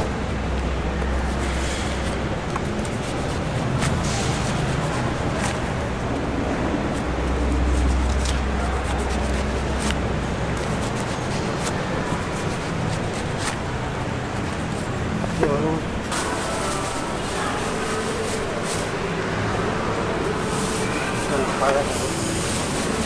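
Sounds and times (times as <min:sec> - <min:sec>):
market background noise: 0:00.0 - 0:23.0.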